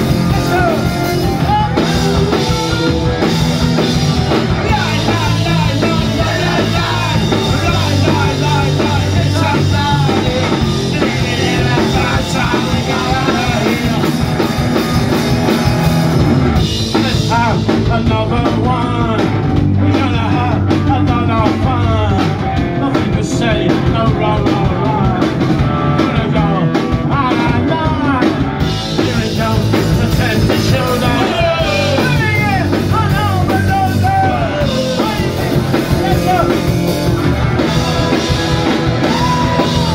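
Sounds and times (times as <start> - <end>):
male lead vocal: 0.0 - 14.6, 16.8 - 39.9
punk rock band playing: 0.0 - 39.9.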